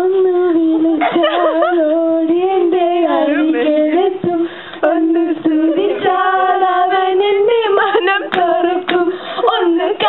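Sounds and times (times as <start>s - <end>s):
person singing: 0.0s - 10.0s.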